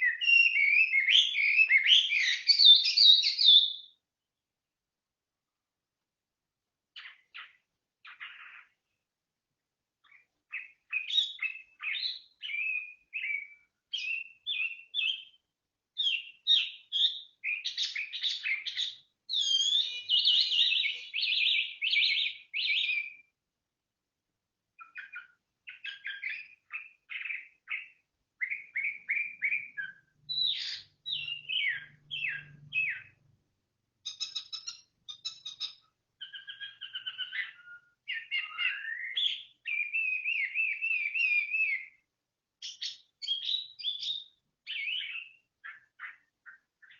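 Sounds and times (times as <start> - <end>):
songbird chirps and trills: 0.0 - 46.9.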